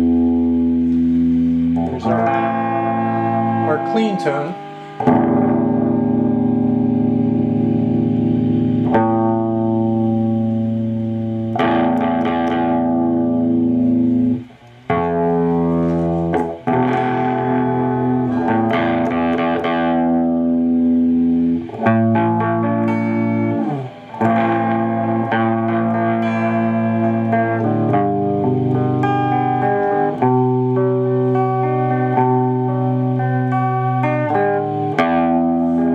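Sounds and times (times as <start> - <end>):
electric guitar chords strummed: 0.0 - 35.9.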